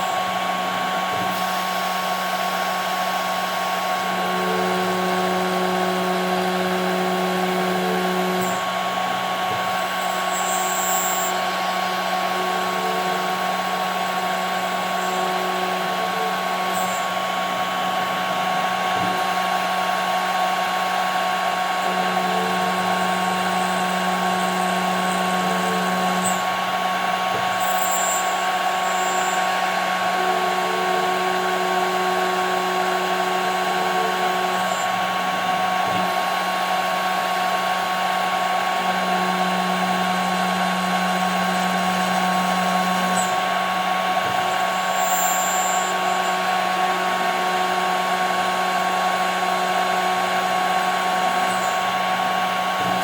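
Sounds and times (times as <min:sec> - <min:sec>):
router spindle high whine: 0:00.0 - 0:53.0.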